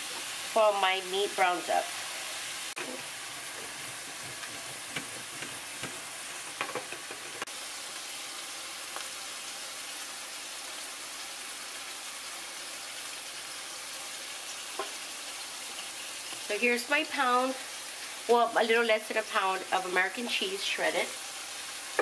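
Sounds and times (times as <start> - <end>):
meat sizzling in a skillet: 0.0 - 22.0.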